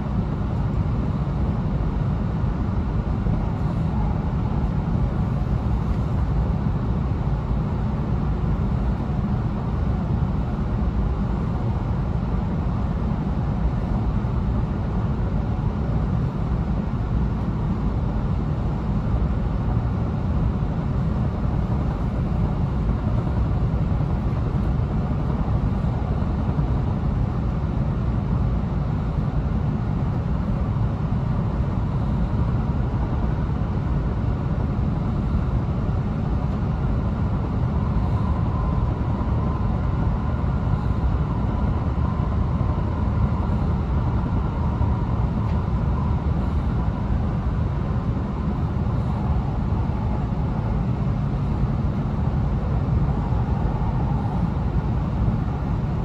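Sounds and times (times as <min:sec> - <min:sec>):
faint high hum: 0:00.0 - 0:56.0.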